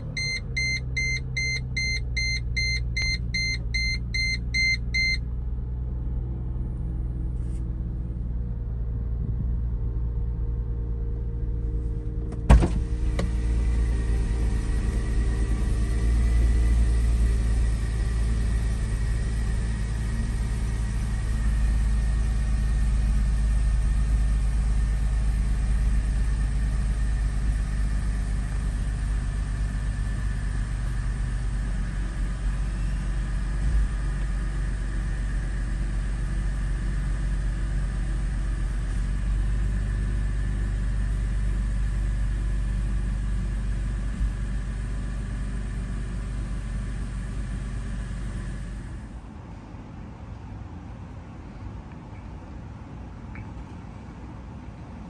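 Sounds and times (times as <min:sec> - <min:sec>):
car engine idling: 0:00.0 - 0:50.8.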